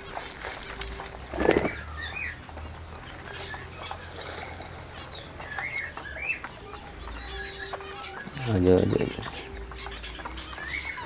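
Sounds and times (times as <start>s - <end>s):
wings fluttering: 0.0s - 10.4s
parrots chirping: 0.0s - 11.0s.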